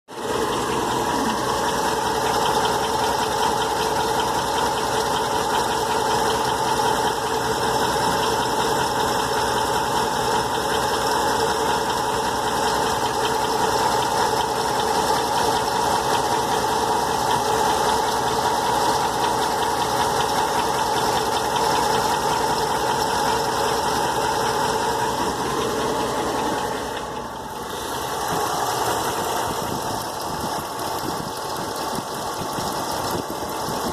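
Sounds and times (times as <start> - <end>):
engine running with knock: 0.1 - 33.9.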